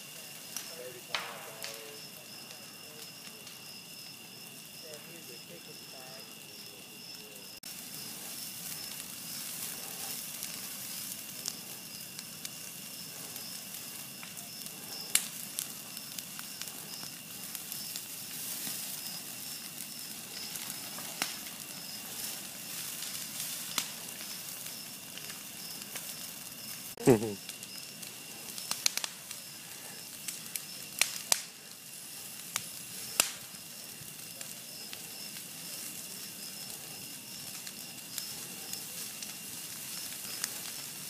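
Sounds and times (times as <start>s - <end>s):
fire crackling and popping: 0.0s - 41.0s.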